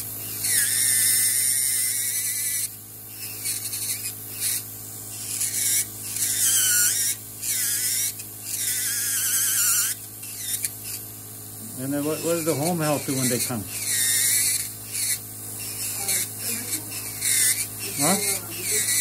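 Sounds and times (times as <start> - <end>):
nail drill whining: 0.0 - 11.0, 11.8 - 19.0.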